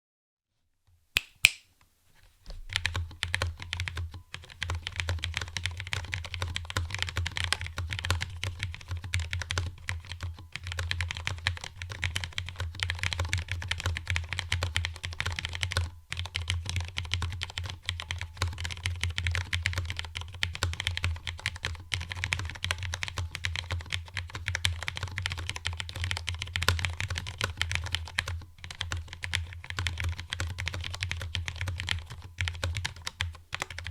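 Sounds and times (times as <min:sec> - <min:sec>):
mechanical keyboard typing: 0:02.7 - 0:33.9.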